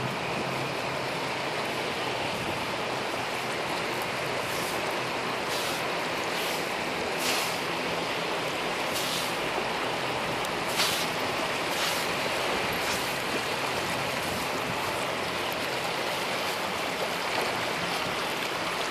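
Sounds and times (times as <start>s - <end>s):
surf washing on sand: 0.0s - 18.9s.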